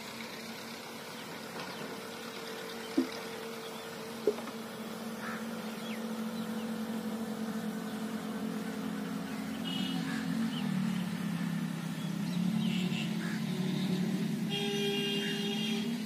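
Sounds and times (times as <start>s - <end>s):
steady motor drone: 0.0s - 16.0s.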